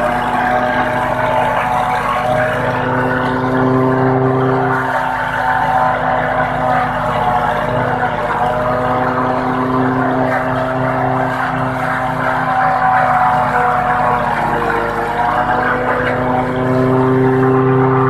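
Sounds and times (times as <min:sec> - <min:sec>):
fodder chopper running: 0:00.0 - 0:18.0
tractor engine under load: 0:00.0 - 0:18.0.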